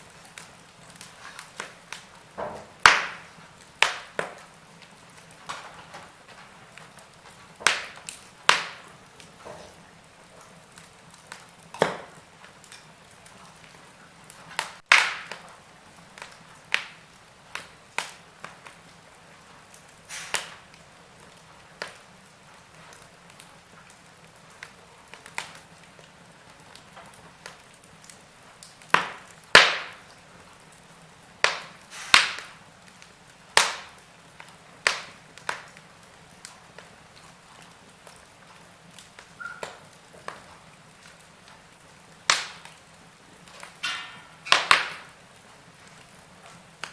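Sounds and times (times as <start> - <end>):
soft fire hiss: 0.0 - 46.9
wood fire crackling: 0.0 - 46.9.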